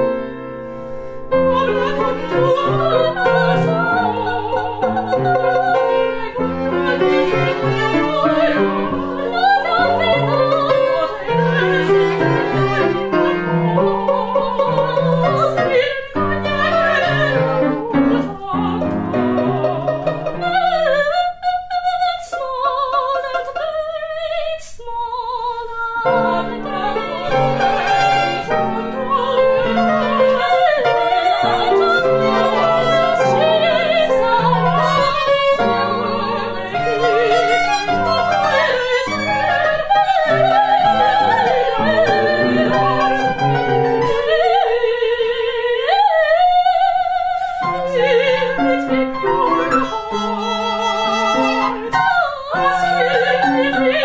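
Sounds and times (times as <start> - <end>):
cello: 0.0 - 54.0
piano: 0.0 - 54.0
violin: 0.0 - 54.0
operatic soprano singing: 1.2 - 54.0.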